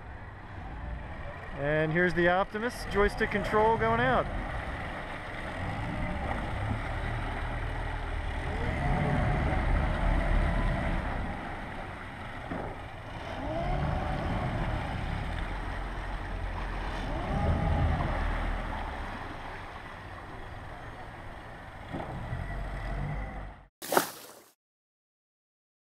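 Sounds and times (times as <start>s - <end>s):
outboard engines revving: 0.0s - 23.7s.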